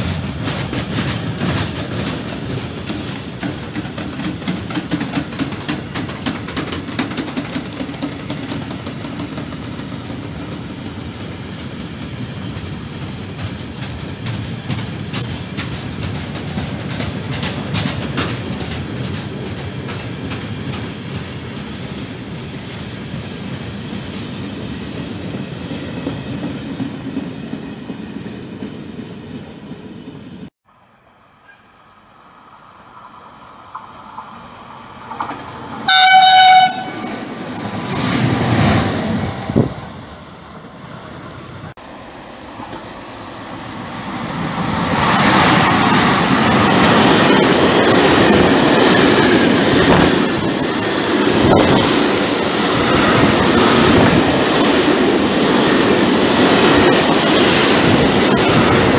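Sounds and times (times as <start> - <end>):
freight train rumbling past: 0.0 - 58.9
train approaching: 0.0 - 58.9.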